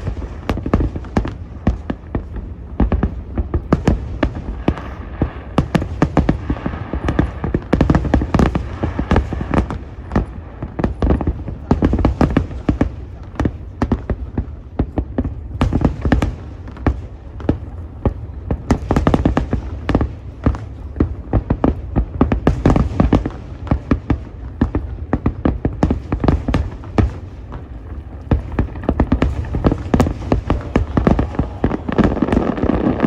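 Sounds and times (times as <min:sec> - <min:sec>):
fireworks bursts and bangs: 0:00.0 - 0:33.0.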